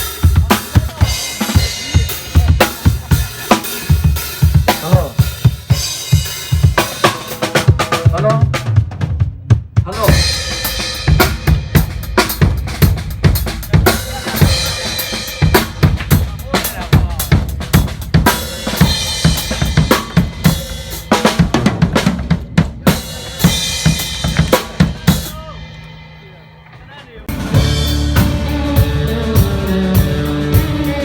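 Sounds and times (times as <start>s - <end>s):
cymbals: 0.0s - 8.3s, 9.9s - 31.0s.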